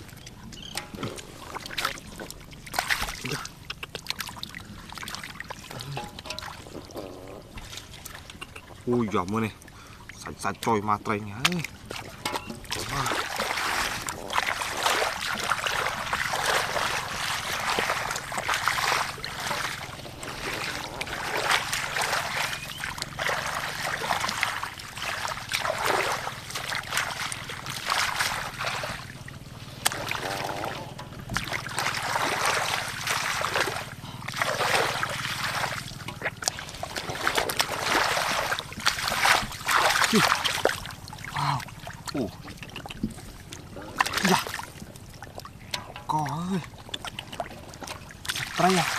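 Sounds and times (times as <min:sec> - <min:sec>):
hands splashing in muddy water: 0:00.0 - 0:08.6, 0:11.4 - 0:48.9.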